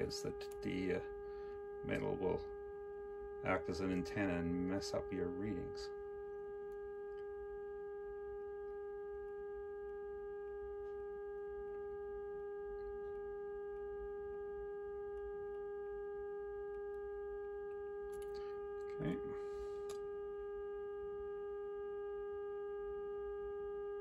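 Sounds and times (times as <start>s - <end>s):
steady test tone from loudspeaker: 0.0s - 24.0s.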